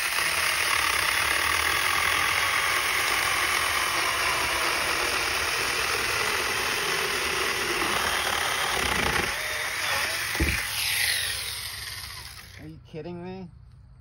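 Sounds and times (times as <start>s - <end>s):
mini chainsaw cutting wood: 0.0s - 12.7s.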